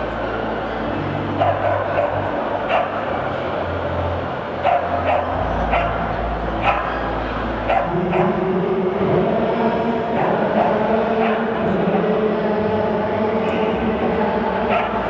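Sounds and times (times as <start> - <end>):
exhibition hall din: 0.0 - 15.0.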